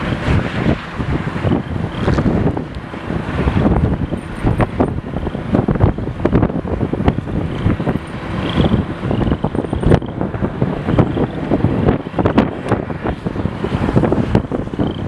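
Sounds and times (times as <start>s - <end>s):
gusty wind on microphone: 0.0s - 15.0s.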